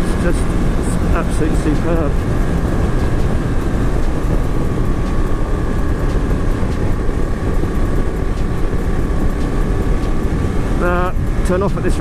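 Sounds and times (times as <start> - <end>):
motorcycle engine cruising: 0.0 - 12.0
wind buffeting microphone: 0.0 - 12.0.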